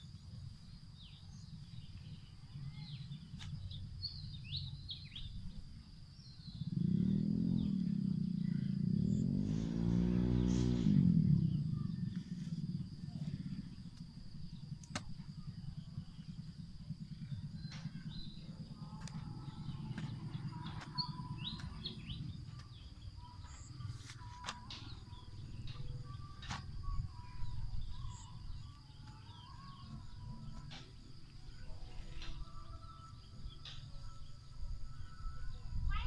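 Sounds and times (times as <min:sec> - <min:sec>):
faint high-pitched whine: 0:00.0 - 0:36.0
low rumbling noise: 0:00.0 - 0:36.0
small birds chirping: 0:00.0 - 0:36.0.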